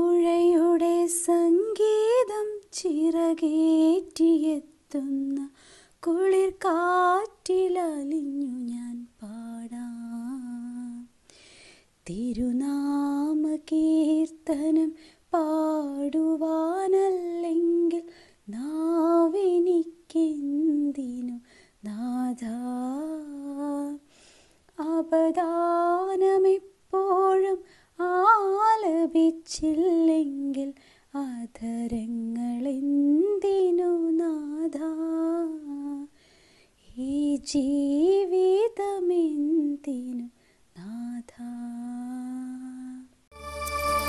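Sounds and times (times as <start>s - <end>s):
woman singing unaccompanied: 0.0s - 11.2s, 12.0s - 24.0s, 24.7s - 36.1s, 36.8s - 43.2s.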